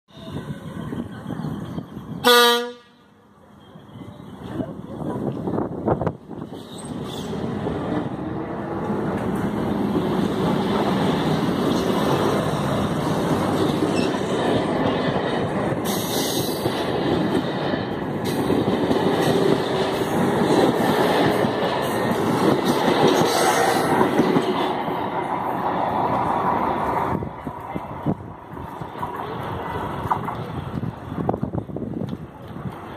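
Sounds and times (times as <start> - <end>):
train wheels on rail: 0.1 - 32.9.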